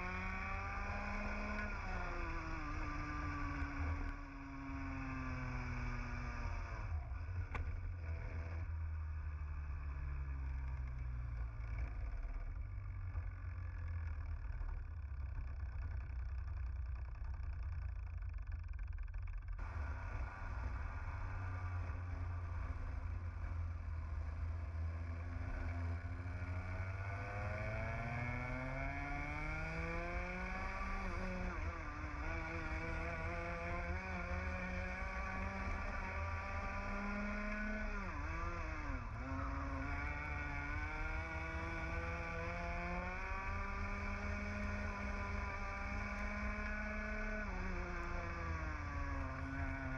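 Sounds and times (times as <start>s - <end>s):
kart two-stroke engine revving: 0.0s - 49.9s.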